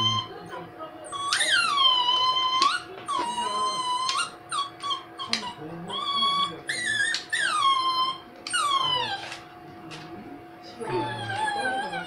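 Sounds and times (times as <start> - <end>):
small dog whimpering: 0.0 - 0.3, 1.1 - 9.4, 10.8 - 12.0.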